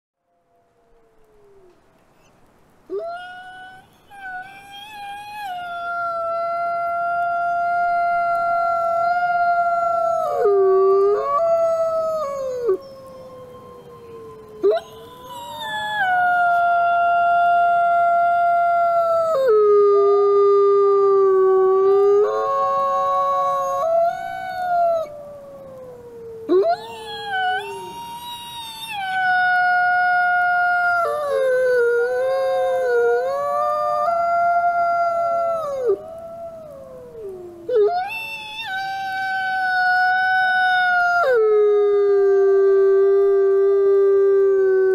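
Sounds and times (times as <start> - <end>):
wolf howling: 0.2 - 1.9, 2.9 - 44.9.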